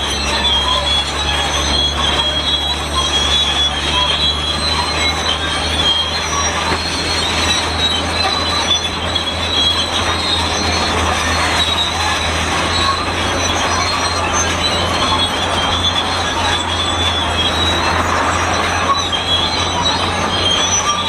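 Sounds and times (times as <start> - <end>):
bulldozer metallic squeal: 0.0 - 21.0
diesel engine drone: 0.0 - 21.0.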